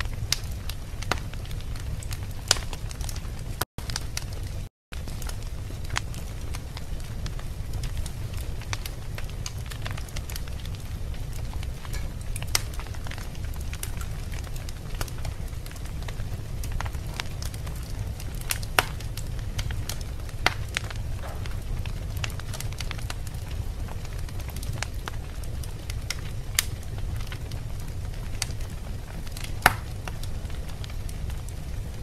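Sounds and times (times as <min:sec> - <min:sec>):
fire crackles and pops: 0:00.0 - 0:32.0
fire flames rumbling: 0:00.0 - 0:32.0.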